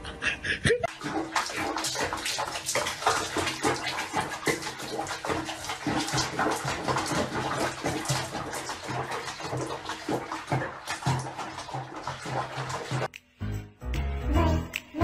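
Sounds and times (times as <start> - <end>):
water splashing in a basin: 0.9 - 13.2.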